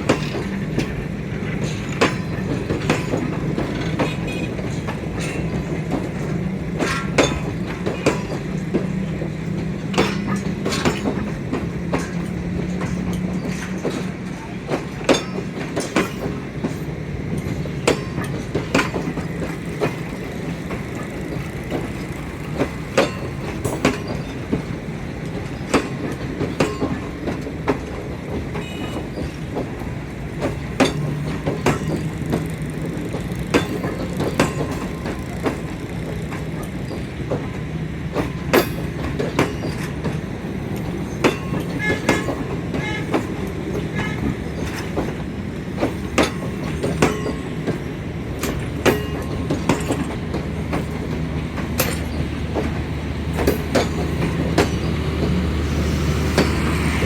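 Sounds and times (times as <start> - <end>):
train rumble: 0.0 - 57.0
train wheels clacking over rail joints: 0.0 - 57.0.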